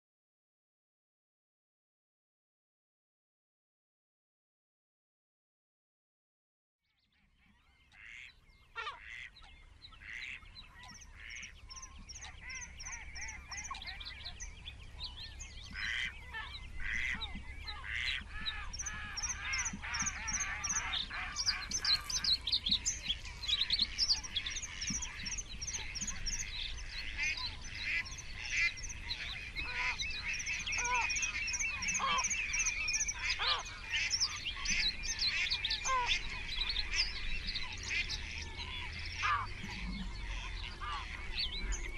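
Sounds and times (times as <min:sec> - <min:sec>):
wetland birds calling: 0:07.4 - 0:41.9.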